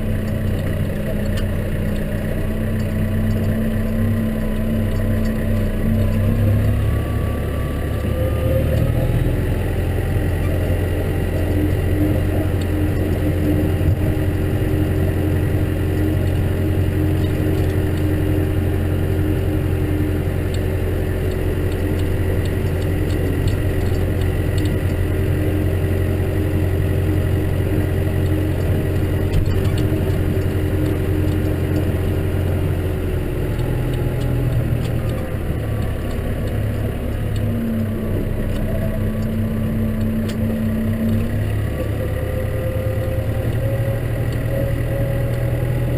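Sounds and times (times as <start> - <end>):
tractor engine droning: 0.0 - 45.9.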